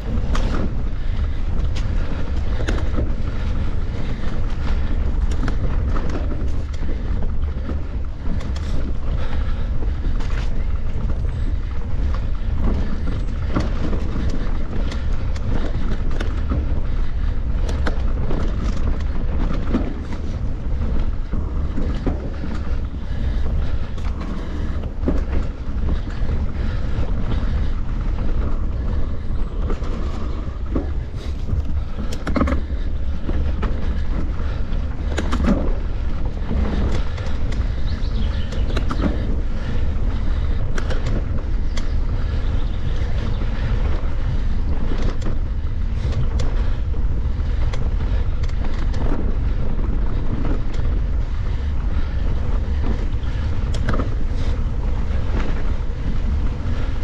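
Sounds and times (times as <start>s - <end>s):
bike clicks and rattles: 0.0s - 57.0s
low rumble: 0.0s - 57.0s
wind buffeting microphone: 0.0s - 57.0s.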